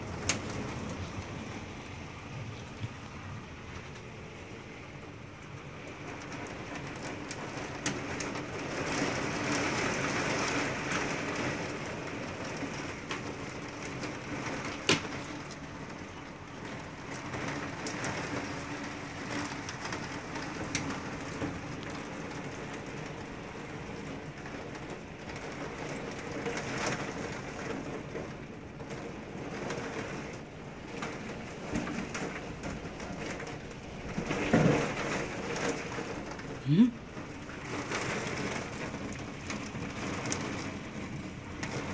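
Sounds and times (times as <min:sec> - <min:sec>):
heavy rain on wooden deck: 0:00.0 - 0:41.9.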